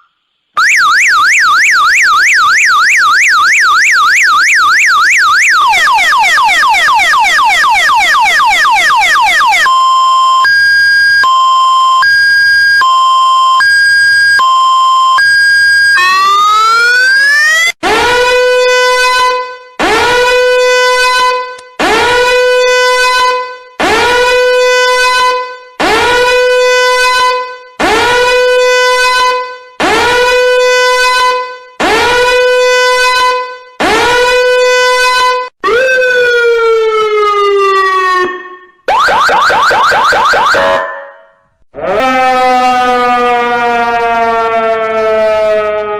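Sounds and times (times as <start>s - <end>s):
emergency vehicle siren: 0.0s - 45.9s.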